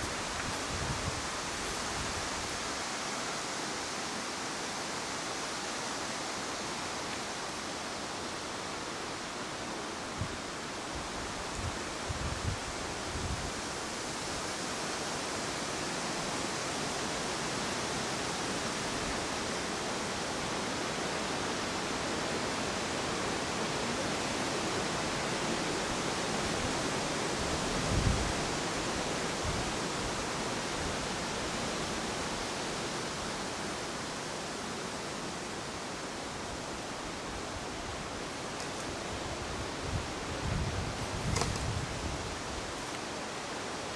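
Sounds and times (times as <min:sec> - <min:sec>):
outdoor ambient hiss: 0:00.0 - 0:43.9.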